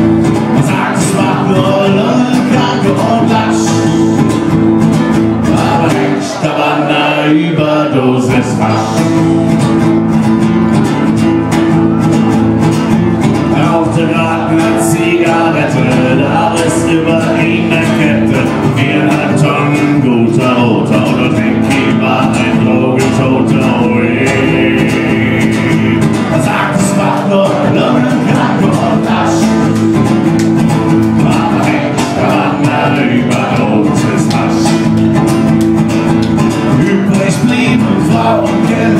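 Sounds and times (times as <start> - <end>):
man singing: 0.0 - 9.8, 13.4 - 38.9
acoustic guitar: 0.0 - 38.9.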